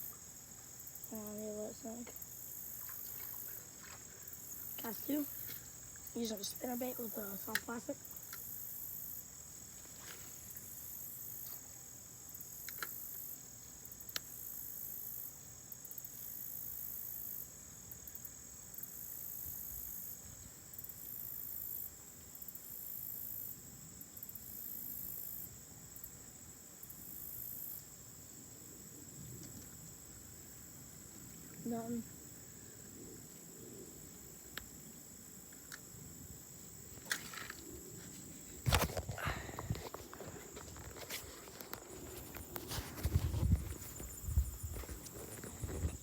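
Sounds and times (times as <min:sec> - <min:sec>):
insect buzzing: 0:00.0 - 0:46.0
insects trilling: 0:00.0 - 0:46.0.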